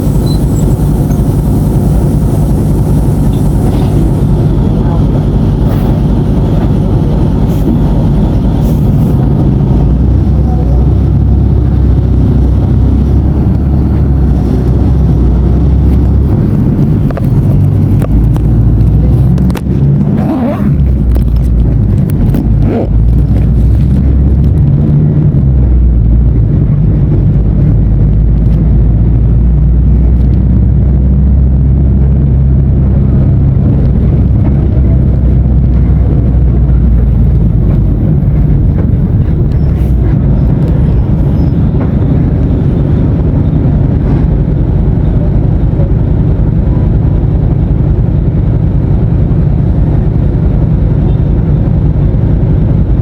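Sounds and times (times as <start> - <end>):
bus diesel engine droning: 0.0 - 53.0.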